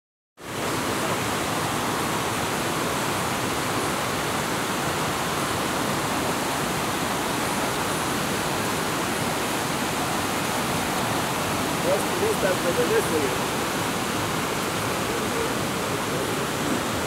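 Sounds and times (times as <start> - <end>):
river rushing over boulders: 0.4 - 17.0.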